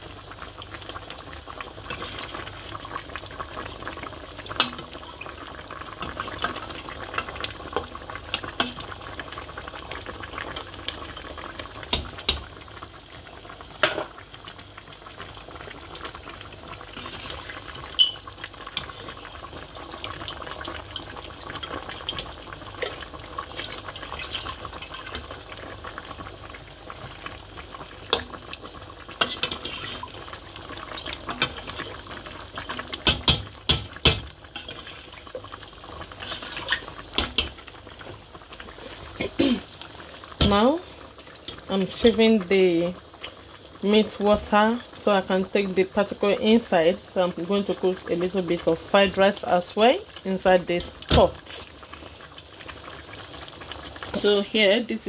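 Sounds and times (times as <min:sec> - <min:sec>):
pot of stock boiling: 0:00.0 - 0:55.0.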